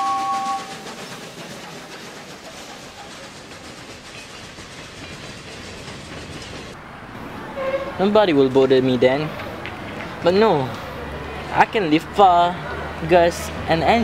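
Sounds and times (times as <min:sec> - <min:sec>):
train running on rails: 0:00.0 - 0:14.0.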